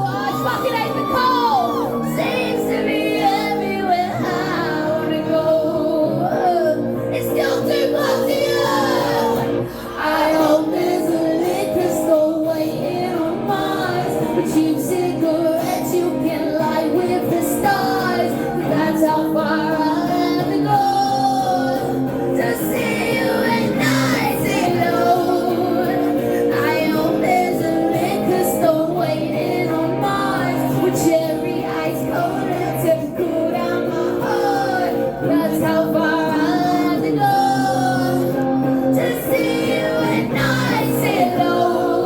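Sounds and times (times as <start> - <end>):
woman singing: 0.0 - 42.0.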